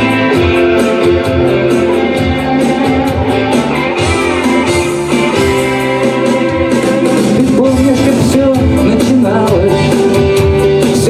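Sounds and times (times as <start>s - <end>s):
bass line: 0.0s - 11.0s
guitar: 0.0s - 11.0s.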